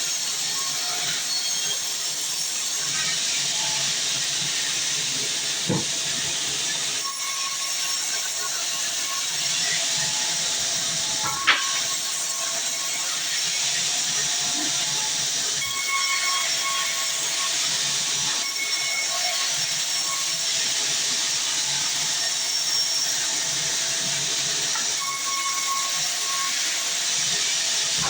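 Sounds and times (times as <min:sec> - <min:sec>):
band saw cutting log: 0:00.6 - 0:28.0.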